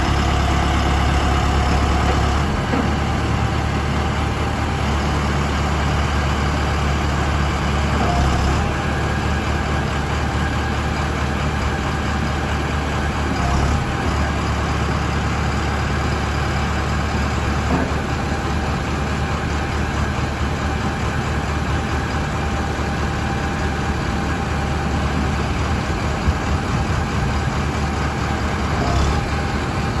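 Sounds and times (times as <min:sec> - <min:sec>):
backhoe loader engine running: 0:00.0 - 0:30.0.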